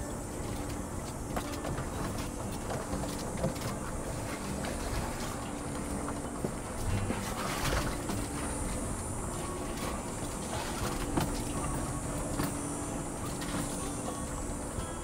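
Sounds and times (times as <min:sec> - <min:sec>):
engine and drivetrain hum: 0:00.0 - 0:15.0
tires knocking and scraping on rock: 0:00.0 - 0:15.0.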